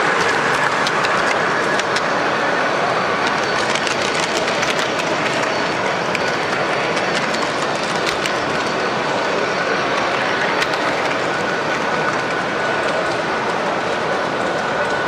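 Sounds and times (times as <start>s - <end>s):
model train wheels clicking: 0.0s - 2.2s, 3.2s - 15.0s
exhibition hall hubbub: 0.0s - 15.0s.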